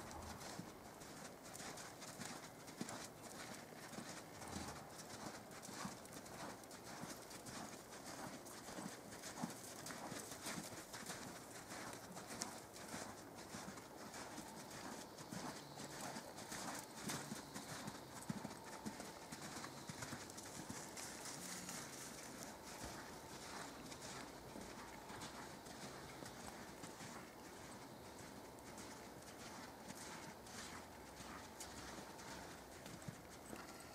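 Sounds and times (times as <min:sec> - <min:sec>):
horse hoofbeats on soft dirt: 0:00.0 - 0:33.9.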